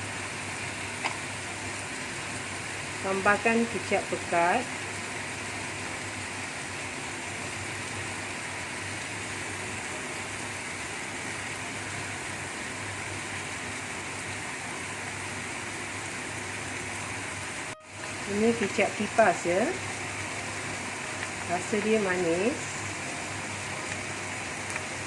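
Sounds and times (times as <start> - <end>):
noodles sizzling in a pan: 0.0 - 25.0.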